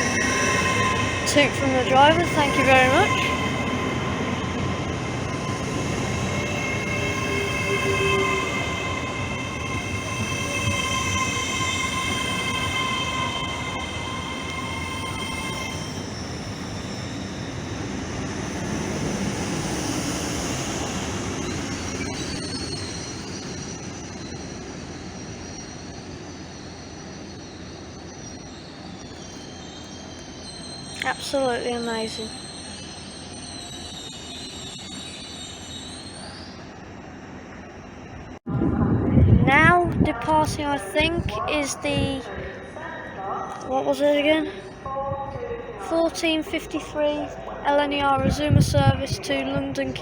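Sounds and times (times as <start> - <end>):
electric train high whine: 0.0 - 50.0
train wheels rumbling: 0.0 - 50.0.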